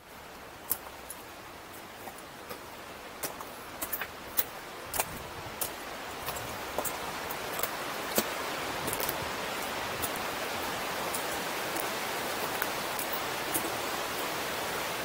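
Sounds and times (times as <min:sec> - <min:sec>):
footsteps on rocky trail: 0:00.6 - 0:14.3
whitewater rapids rushing: 0:02.5 - 0:15.0.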